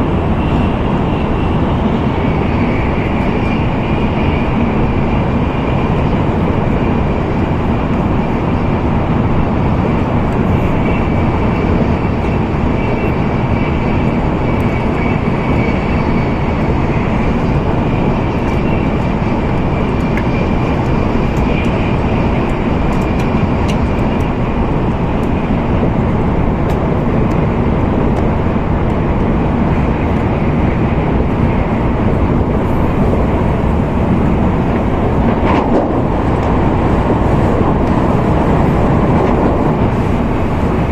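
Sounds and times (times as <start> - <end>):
train running rumble: 0.0 - 40.9.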